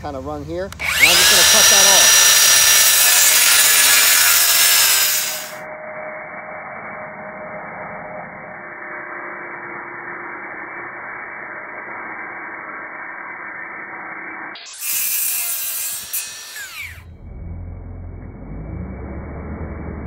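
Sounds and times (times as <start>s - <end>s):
circular saw cutting board: 0.7s - 5.7s, 8.5s - 20.0s.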